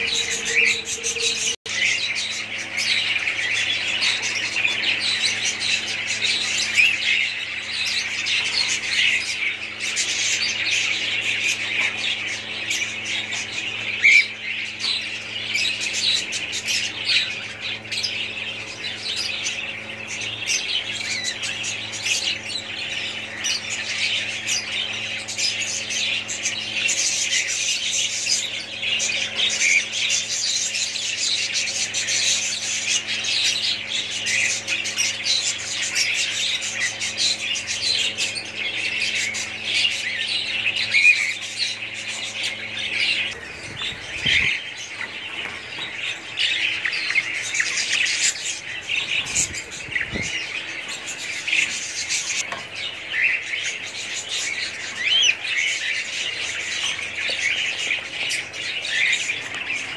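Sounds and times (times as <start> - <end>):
cockatiels chirping and squawking: 0.0 - 59.9.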